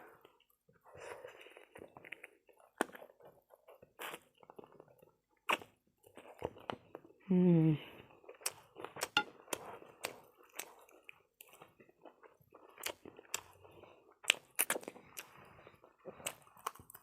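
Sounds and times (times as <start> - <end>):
chewing crunchy fried chicken: 0.0 - 7.3, 8.0 - 17.0.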